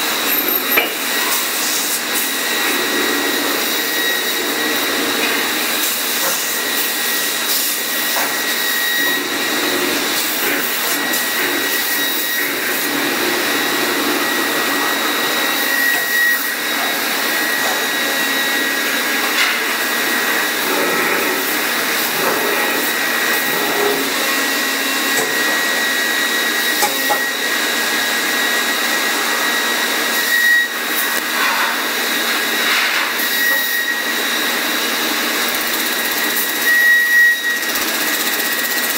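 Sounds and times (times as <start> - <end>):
lathe whirring and whining: 0.0 - 38.9.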